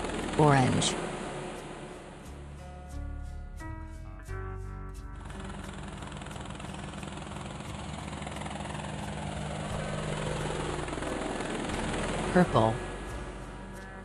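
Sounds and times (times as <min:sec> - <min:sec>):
helicopter rotor blades chopping: 0:00.0 - 0:02.6, 0:05.2 - 0:14.0
helicopter engine hum: 0:00.0 - 0:03.6, 0:04.9 - 0:14.0.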